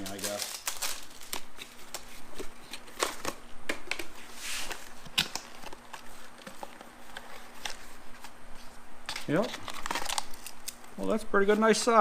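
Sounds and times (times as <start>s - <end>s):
packaging rustle: 0.0s - 3.4s, 4.2s - 12.0s.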